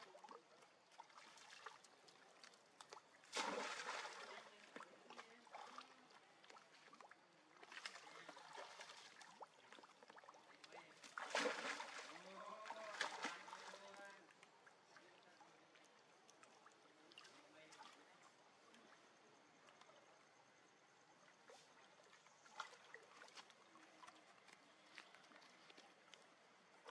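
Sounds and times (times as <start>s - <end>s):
faint water splashing in pool: 0.0s - 26.9s.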